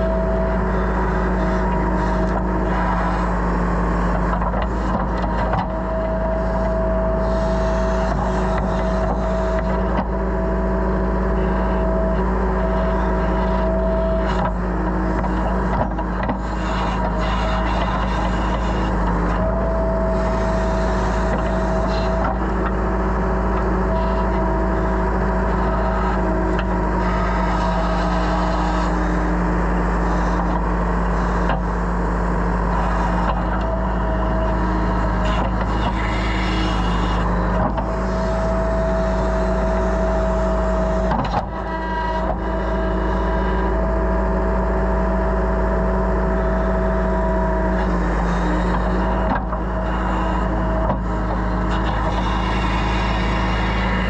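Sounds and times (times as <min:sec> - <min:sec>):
excavator diesel engine: 0:00.0 - 0:54.0
hydraulic whine: 0:00.0 - 0:54.0.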